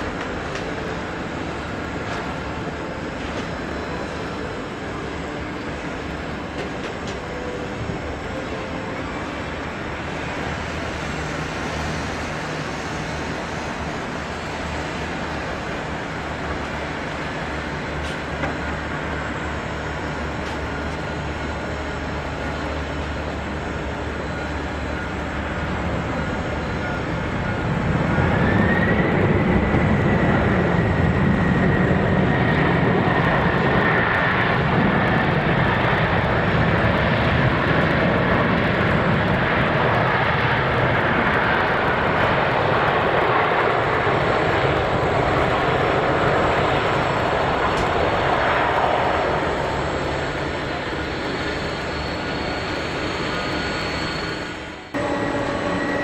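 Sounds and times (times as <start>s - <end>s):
high jet engine whine: 0.0s - 56.0s
jet engines rushing: 0.0s - 56.0s.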